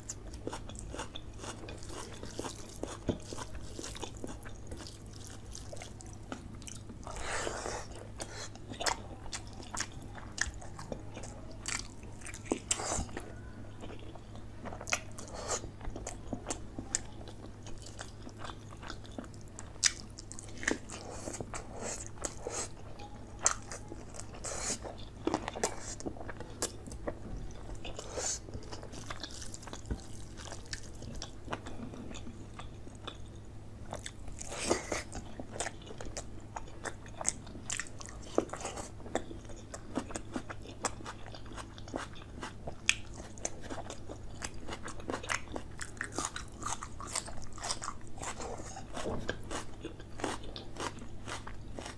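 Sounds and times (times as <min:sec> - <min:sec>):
close chewing and biting: 0:00.0 - 0:51.9
low steady hum: 0:00.0 - 0:51.9.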